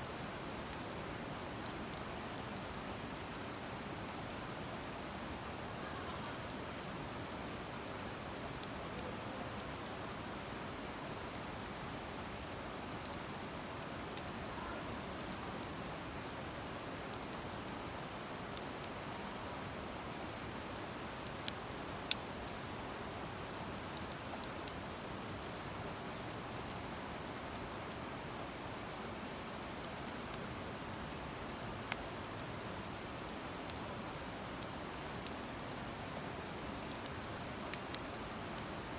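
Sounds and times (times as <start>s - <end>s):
campfire crackles and pops: 0.0s - 38.9s.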